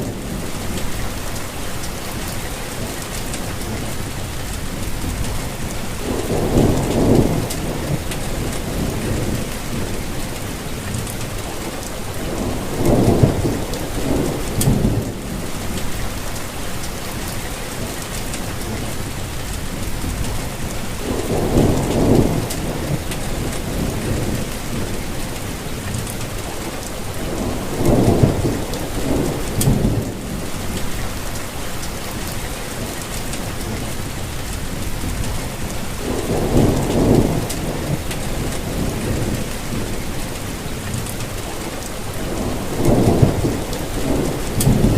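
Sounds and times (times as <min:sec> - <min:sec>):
low thunder rumbles: 0:00.0 - 0:44.9
steady rain: 0:00.0 - 0:44.9.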